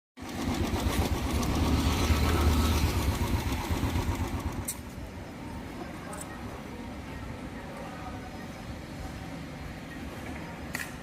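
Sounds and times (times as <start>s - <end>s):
engine low rumble: 0.2s - 11.0s.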